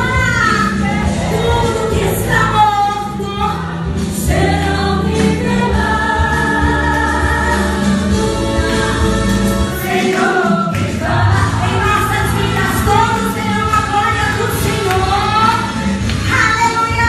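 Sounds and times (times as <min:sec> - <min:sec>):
sustained instrumental backing: 0:00.1 - 0:16.4
congregation singing: 0:00.4 - 0:16.1.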